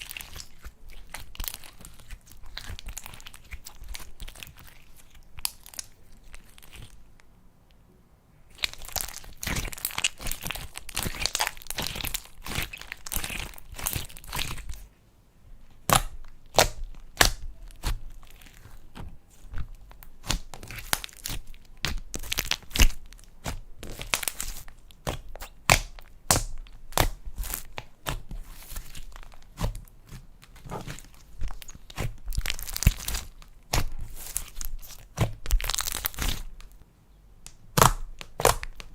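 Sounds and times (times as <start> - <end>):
slime squishing and crackling: 0.0 - 7.2, 8.5 - 14.9, 15.8 - 36.8, 37.5 - 38.9.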